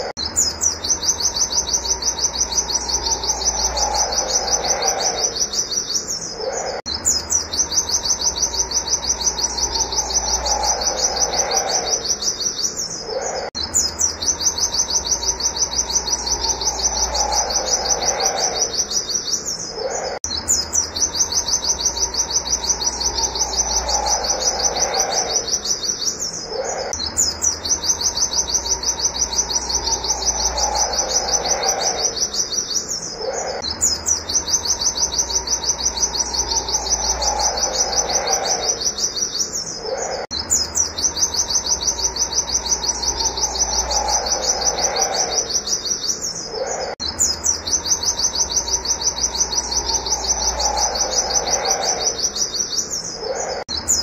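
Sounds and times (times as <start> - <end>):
steady low hum: 0.0 - 52.4
lower falling bird call: 0.0 - 53.9
bird singing high repeated notes: 0.0 - 54.0.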